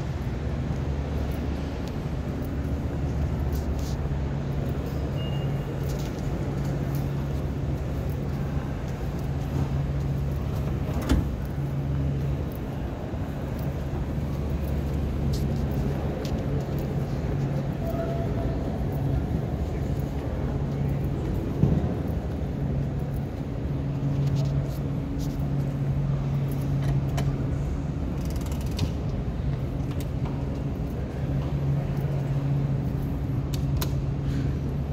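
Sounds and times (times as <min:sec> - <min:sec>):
low rumble and hum of metro station: 0:00.0 - 0:34.9.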